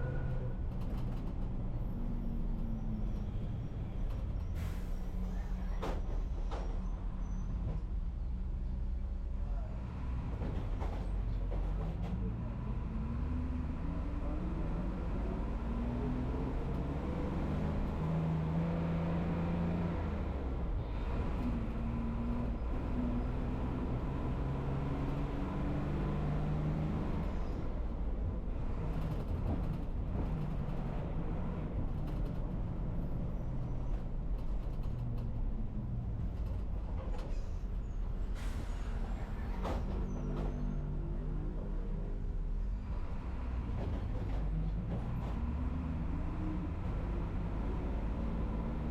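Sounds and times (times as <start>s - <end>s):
bus engine rumbling: 0.0s - 48.9s.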